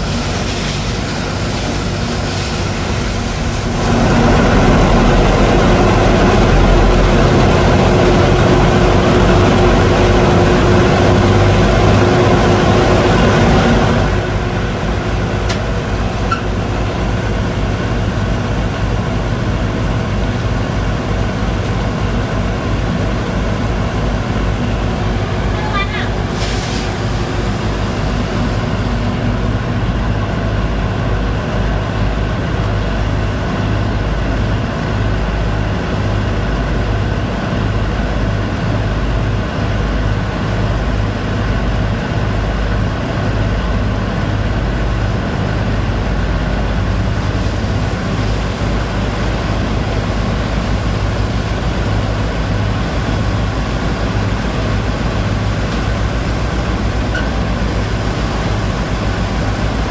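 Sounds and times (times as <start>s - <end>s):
boat engine low drone: 0.0s - 59.9s.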